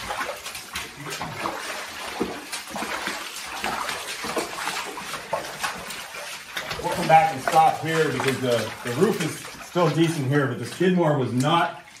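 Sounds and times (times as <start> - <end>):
boots splashing through water: 0.0 - 12.0.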